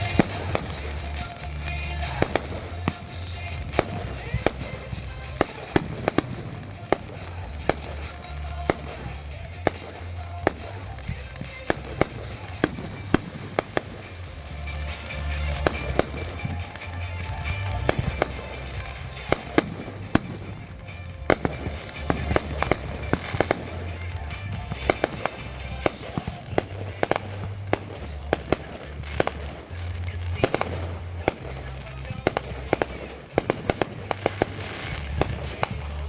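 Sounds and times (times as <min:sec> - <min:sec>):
fireworks popping and banging: 0:00.0 - 0:36.0.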